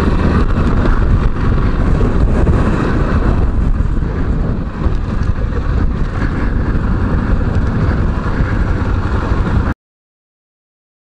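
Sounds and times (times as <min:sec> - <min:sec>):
motorcycle engine running: 0:00.0 - 0:09.8
wind rumble on microphone: 0:00.0 - 0:09.8.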